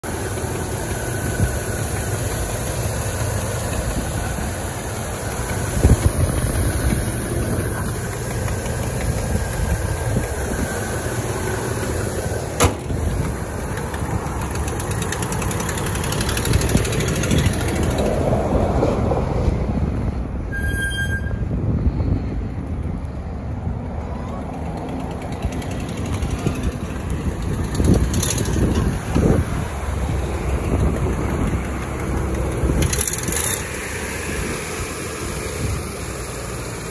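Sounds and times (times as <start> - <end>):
truck engine idling: 0.0 - 20.5, 22.4 - 36.9.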